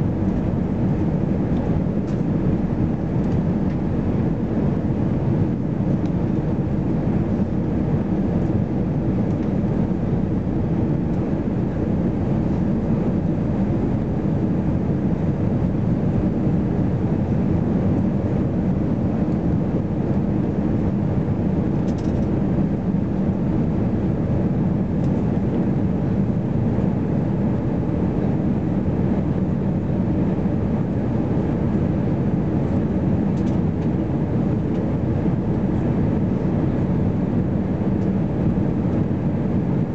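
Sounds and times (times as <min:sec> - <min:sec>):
aircraft engines rumbling: 0:00.0 - 0:39.9.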